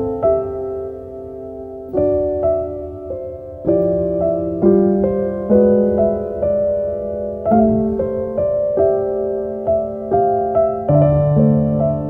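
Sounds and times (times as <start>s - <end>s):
slow calm piano music: 0.0s - 12.0s.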